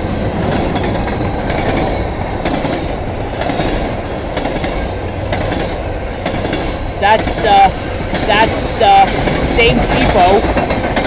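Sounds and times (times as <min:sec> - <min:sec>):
rail joint clicks: 0:00.0 - 0:11.0
train wheels rumbling on rails: 0:00.0 - 0:11.0.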